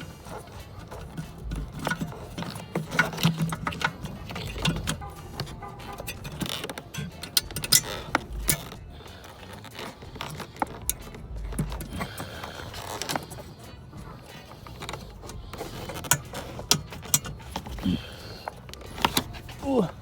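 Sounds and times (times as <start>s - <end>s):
plastic and metal clicks and scrapes: 0.0s - 20.0s.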